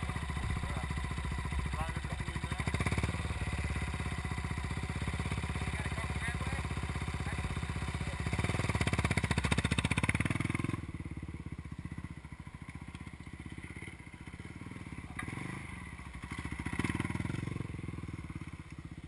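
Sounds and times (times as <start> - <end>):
dirt bike idling: 0.0 - 19.0
dirt bike revving: 0.0 - 19.0.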